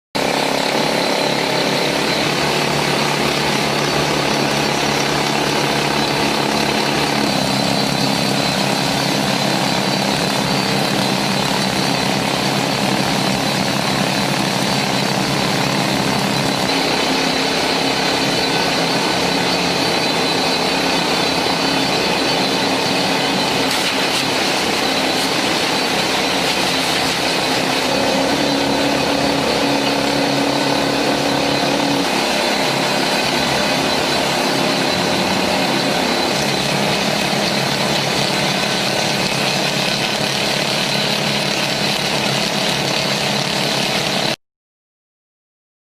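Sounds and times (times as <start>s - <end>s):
exhaust air hissing: 0.2s - 43.0s
pneumatic rock drill hammering: 0.2s - 44.4s.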